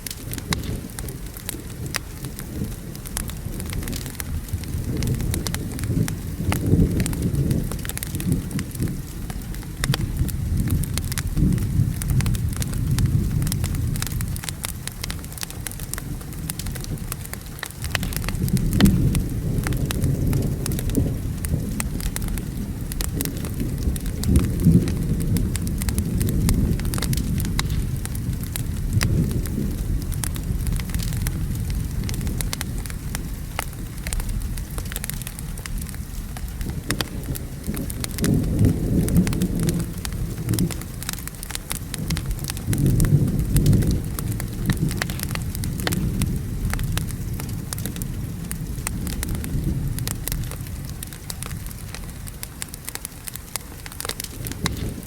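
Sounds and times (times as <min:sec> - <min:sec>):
distant thunder rumbling: 0:00.0 - 0:55.0
rain: 0:00.0 - 0:55.0
wood fire crackling and popping: 0:00.0 - 0:55.0.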